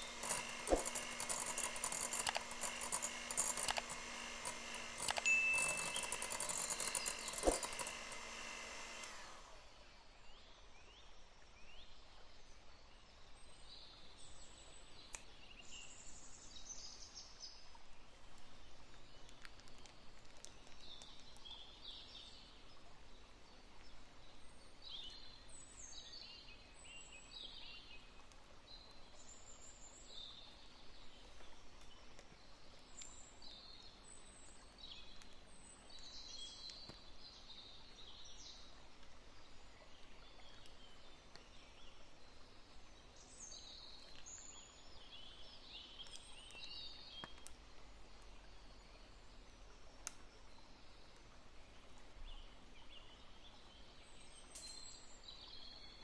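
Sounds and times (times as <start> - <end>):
faint birdsong chirps and trills: 0.0 - 56.0.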